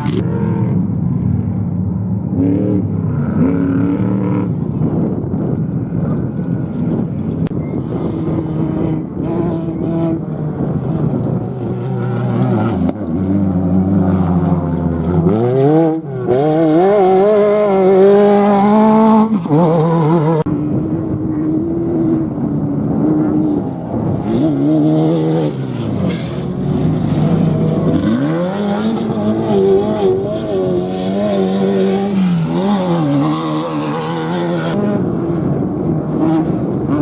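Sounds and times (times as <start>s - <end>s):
race vehicle engine accelerating: 0.0s - 37.0s.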